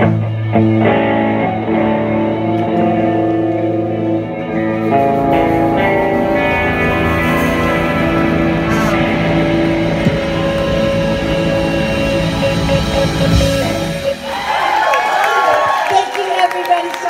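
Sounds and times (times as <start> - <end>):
sustained guitar chords: 0.0 - 15.0
live band playing: 0.0 - 17.0.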